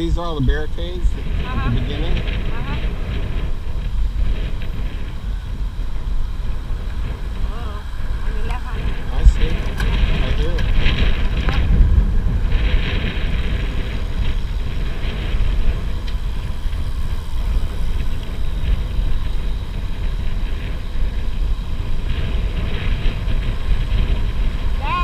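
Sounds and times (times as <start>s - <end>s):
bicycle road noise: 0.0s - 25.0s
wind rumble on microphone: 0.0s - 25.0s.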